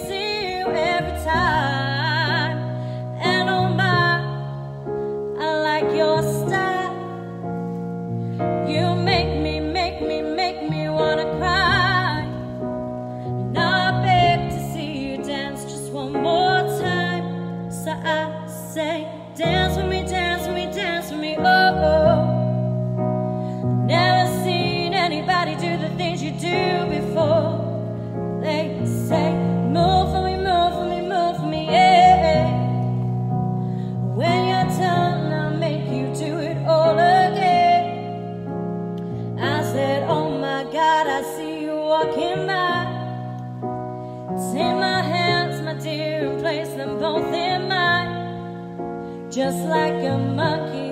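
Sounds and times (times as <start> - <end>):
woman singing into microphone: 0.0 - 43.6, 44.3 - 50.9
piano backing track: 0.0 - 50.9.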